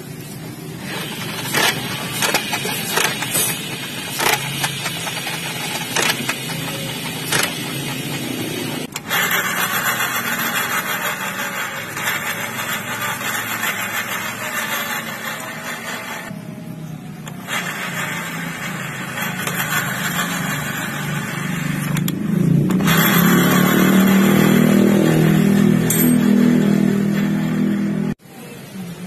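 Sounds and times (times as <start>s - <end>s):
scooter engine running: 0.6s - 28.2s.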